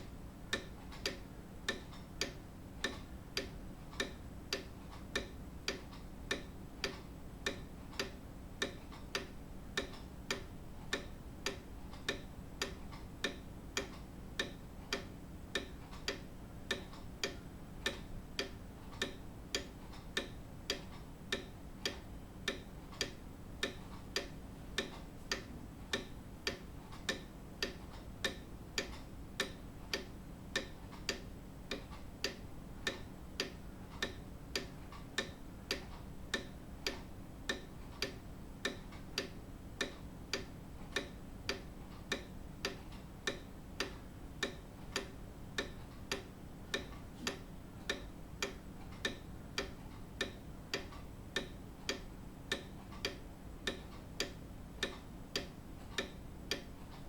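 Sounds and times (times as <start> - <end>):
grandfather clock ticking: 0.0 - 57.0.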